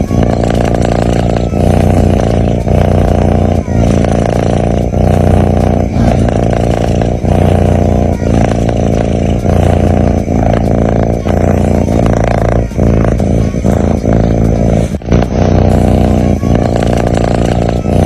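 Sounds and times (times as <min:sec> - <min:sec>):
cat snoring: 0:00.0 - 0:18.0.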